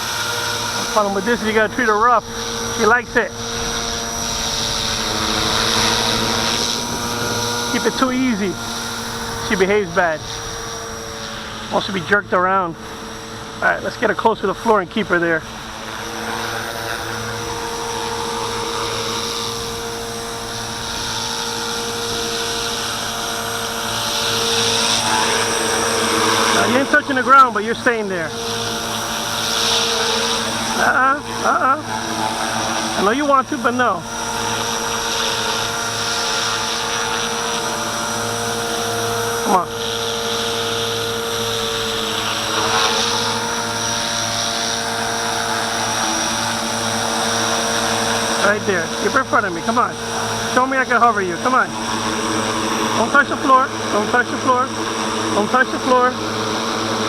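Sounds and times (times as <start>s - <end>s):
model helicopter motor whine: 0.0s - 57.0s
rotor blades whirring: 0.0s - 57.0s.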